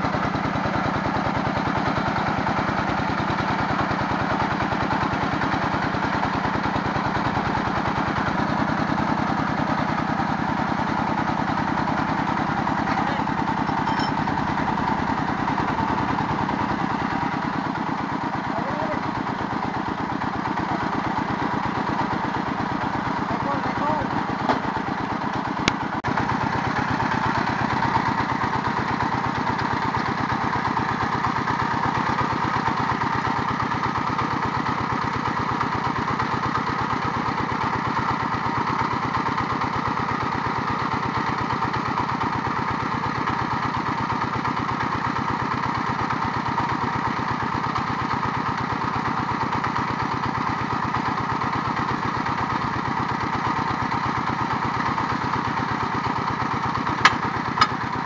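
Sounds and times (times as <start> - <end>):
drilling rig engine running: 0.0 - 58.0.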